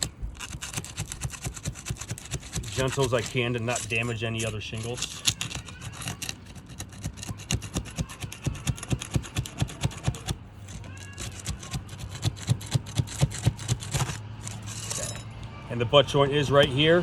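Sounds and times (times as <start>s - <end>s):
pry bar cracking shingle seals: 0.0s - 15.3s.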